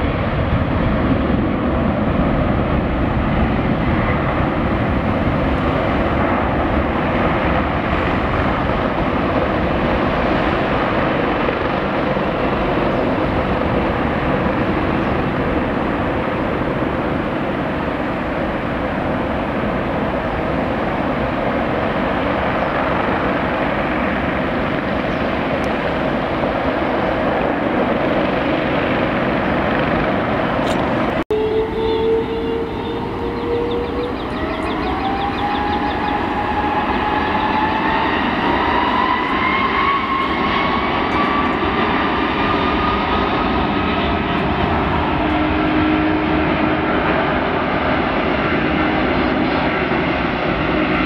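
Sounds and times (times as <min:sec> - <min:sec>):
jet engines at takeoff thrust: 0:00.0 - 0:51.0.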